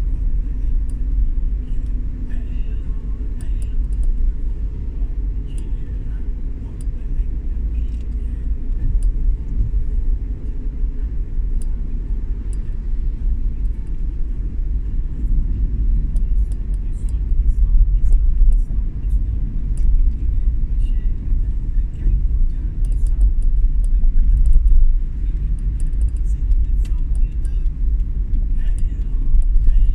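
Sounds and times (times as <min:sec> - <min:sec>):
vehicle road rumble: 0:00.0 - 0:29.9.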